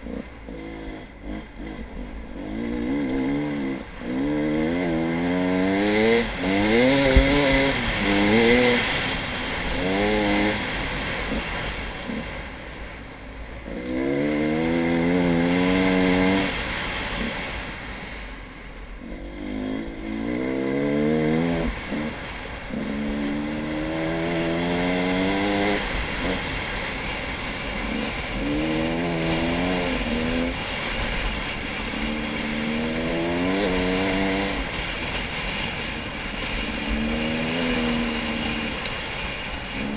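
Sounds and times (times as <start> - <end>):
vehicle engine revving: 0.0 - 12.4, 13.6 - 17.6, 19.0 - 39.9.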